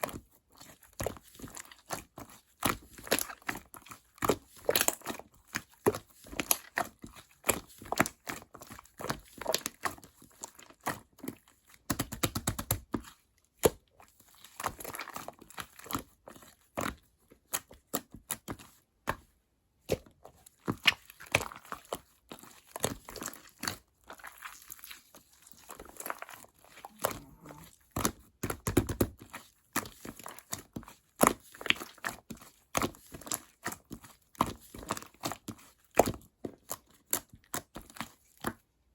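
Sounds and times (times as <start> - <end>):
slime squelch: 0.0 - 38.9.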